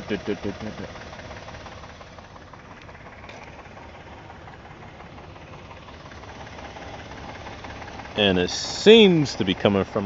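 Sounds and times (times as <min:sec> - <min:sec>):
car engine idling: 0:00.0 - 0:10.0
rapid steady clicking from engine: 0:00.0 - 0:10.0.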